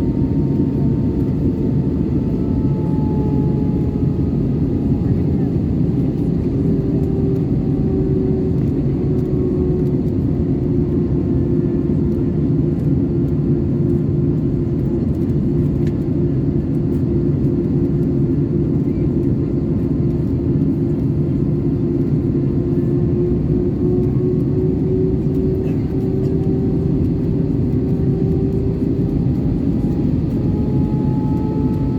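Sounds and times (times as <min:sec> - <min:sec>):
airplane cabin drone: 0:00.0 - 0:31.9
engine and airflow rumble: 0:00.0 - 0:31.9.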